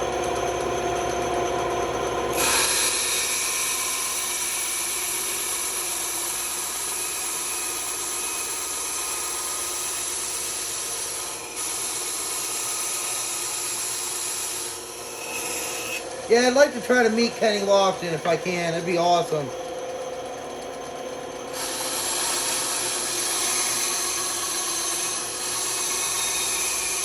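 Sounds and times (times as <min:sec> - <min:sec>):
band saw cutting: 0:02.0 - 0:27.0.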